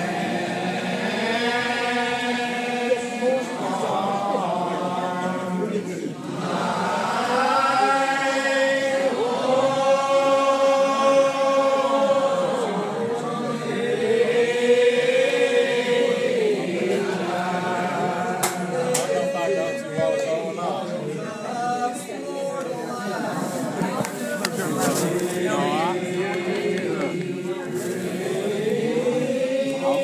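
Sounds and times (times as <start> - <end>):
congregation singing a hymn: 0.0 - 30.0.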